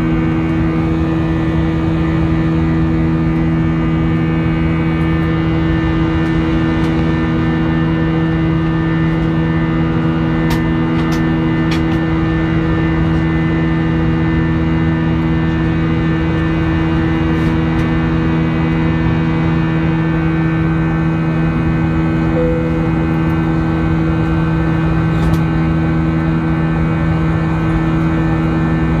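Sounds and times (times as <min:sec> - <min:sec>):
jet engine drone: 0:00.0 - 0:29.0.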